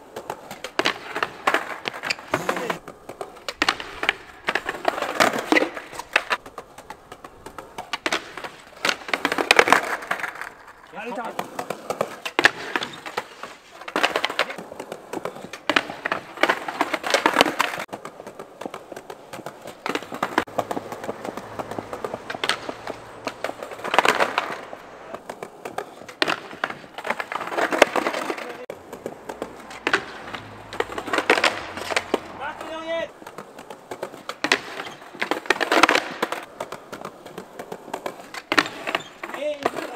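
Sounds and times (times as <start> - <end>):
skateboard clacks and slaps: 0.0 - 39.9
skateboard scraping on wood: 0.0 - 39.9
skateboard wheels rolling on paving: 0.0 - 39.9.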